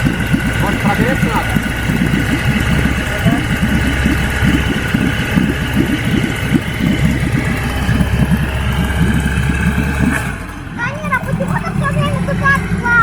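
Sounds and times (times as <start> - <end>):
small boat motor running: 0.0 - 13.0.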